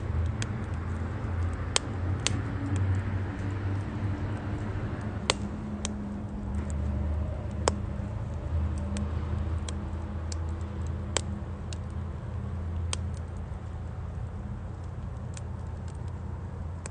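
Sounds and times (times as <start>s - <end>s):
firewood crackling and popping: 0.0s - 16.9s
low steady rumble: 0.0s - 16.9s.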